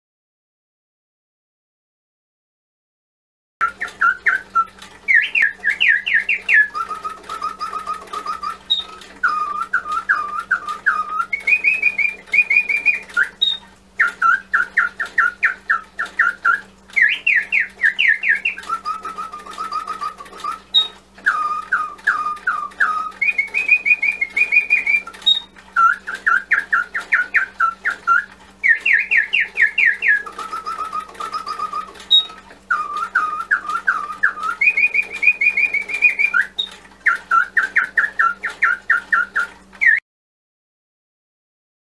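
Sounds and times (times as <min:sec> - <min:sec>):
faint steady hum: 0:03.6 - 0:40.0
mechanical bird whistle song: 0:03.6 - 0:40.0.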